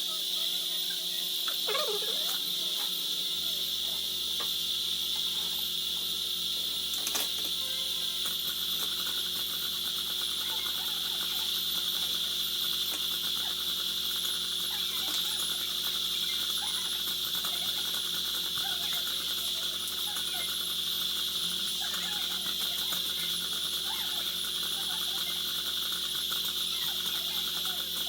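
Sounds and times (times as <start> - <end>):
dental drill whine: 0.0 - 28.0.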